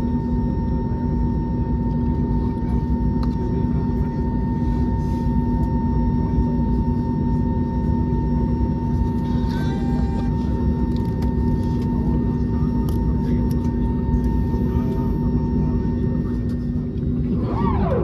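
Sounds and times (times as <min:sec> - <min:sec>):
aircraft engine rumble: 0:00.0 - 0:18.0
constant low hum: 0:00.0 - 0:18.0.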